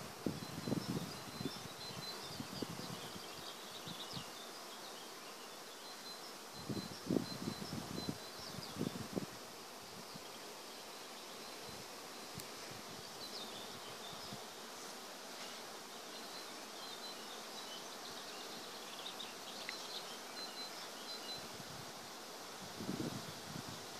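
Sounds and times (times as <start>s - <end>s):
bees humming: 0.0s - 23.9s.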